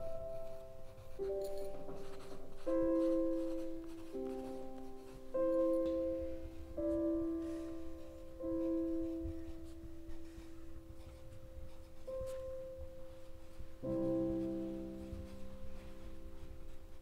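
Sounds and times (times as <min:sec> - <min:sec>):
slow background music: 0:00.0 - 0:17.0.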